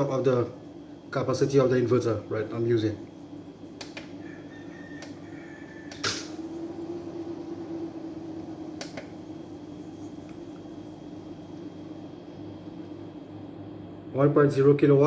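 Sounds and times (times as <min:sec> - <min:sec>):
inverter humming: 0:00.0 - 0:15.0.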